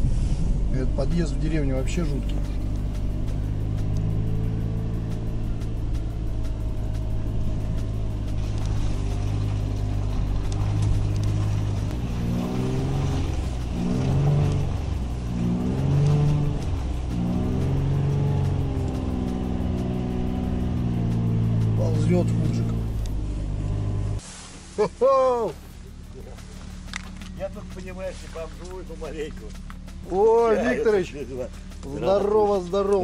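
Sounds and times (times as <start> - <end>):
car engine revving: 0.0 - 24.2, 25.6 - 33.0.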